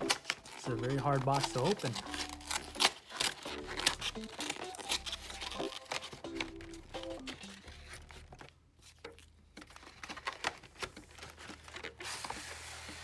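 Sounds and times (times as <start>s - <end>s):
cardboard crinkling and tearing: 0.0s - 13.0s.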